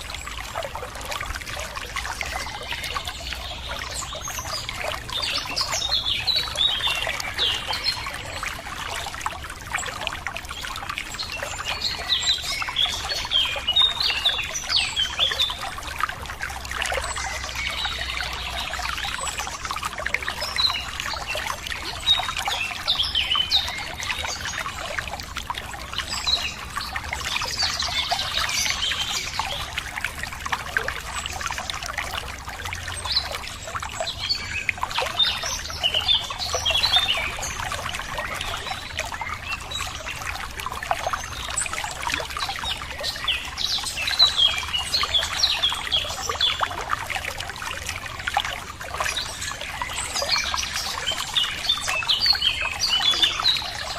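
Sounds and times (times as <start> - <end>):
songbirds chirping: 0.0 - 53.9
water trickling and splashing: 0.0 - 53.9.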